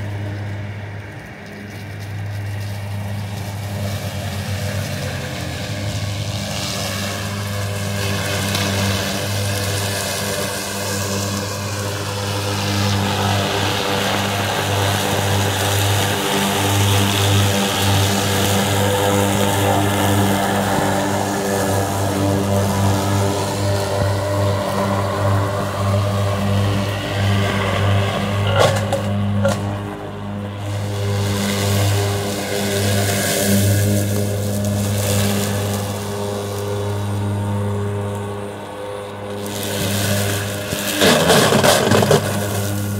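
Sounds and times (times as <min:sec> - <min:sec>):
robotic mower motor humming: 0:00.0 - 0:42.9.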